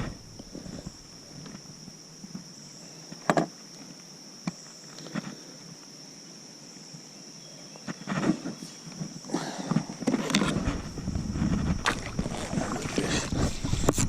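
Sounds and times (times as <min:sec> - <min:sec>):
knocks and rustles in a kayak: 0:00.0 - 0:05.4, 0:07.8 - 0:14.0
insects droning: 0:00.0 - 0:14.0.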